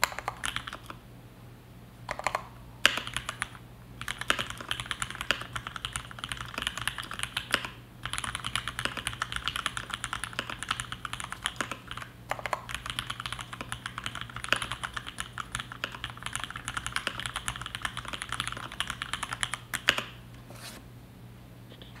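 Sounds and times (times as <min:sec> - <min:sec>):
fast mechanical keyboard typing: 0:00.0 - 0:01.0, 0:02.1 - 0:20.2.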